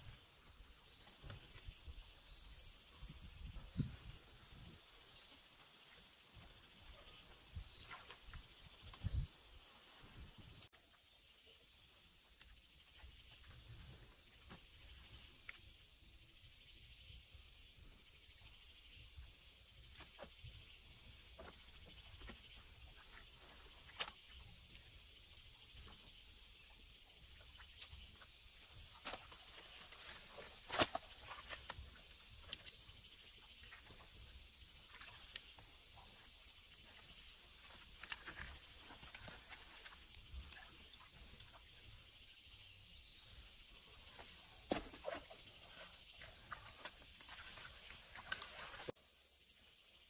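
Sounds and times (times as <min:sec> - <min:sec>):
insect calling: 0:00.0 - 0:50.0.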